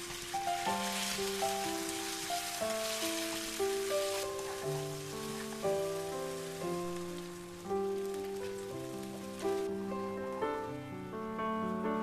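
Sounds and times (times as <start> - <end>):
meat sizzling in a frying pan: 0.0 - 9.8
background music: 0.0 - 12.0.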